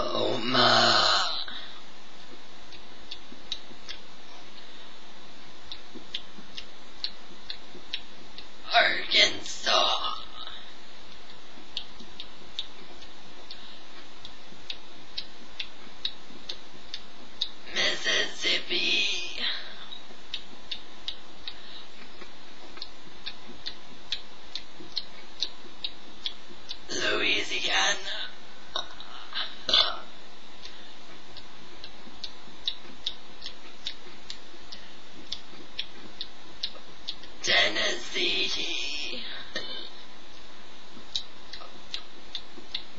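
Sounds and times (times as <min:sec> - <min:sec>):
low hiss: 0:00.0 - 0:42.9
steady light ticking: 0:00.0 - 0:42.9.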